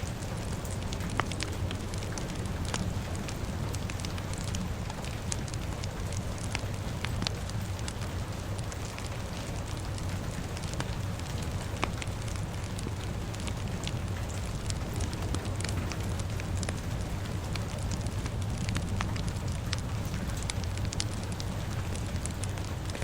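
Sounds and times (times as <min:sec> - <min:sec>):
fire crackling and popping: 0:00.0 - 0:23.0
rain hissing: 0:00.0 - 0:23.0.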